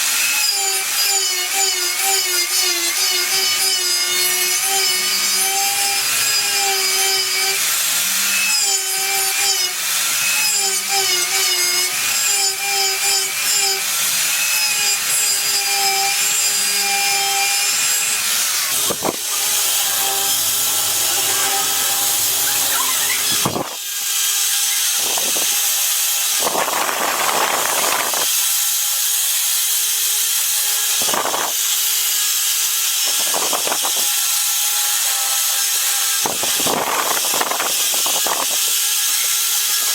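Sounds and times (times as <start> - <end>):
power tool cutting wood: 0.0 - 39.9.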